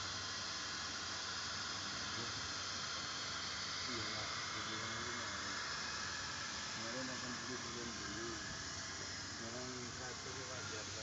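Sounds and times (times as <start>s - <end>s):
machinery hissing: 0.0s - 11.0s.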